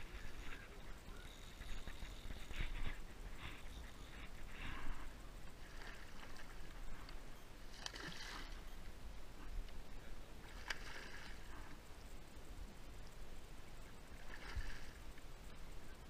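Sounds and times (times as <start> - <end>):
faint lapping river water: 0.0 - 16.0.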